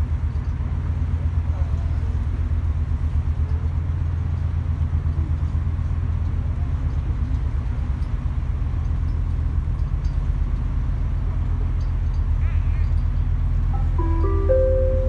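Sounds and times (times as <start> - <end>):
ferry engine rumble: 0.0 - 15.0.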